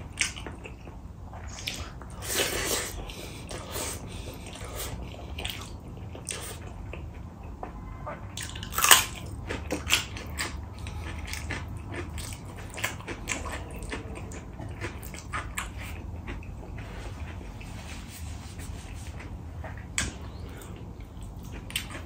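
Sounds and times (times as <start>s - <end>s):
wet chewing: 0.0s - 7.7s, 8.4s - 17.9s, 18.6s - 22.0s.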